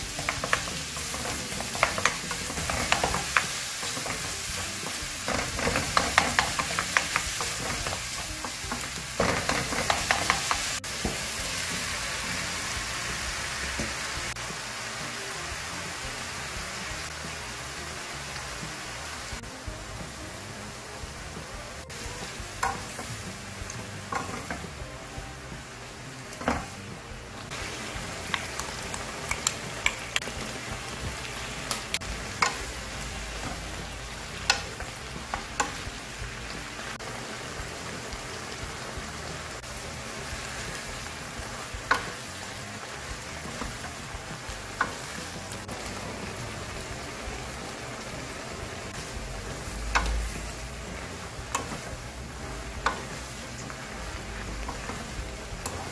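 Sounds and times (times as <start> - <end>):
vegetables sizzling in frying pan: 0.0 - 55.9.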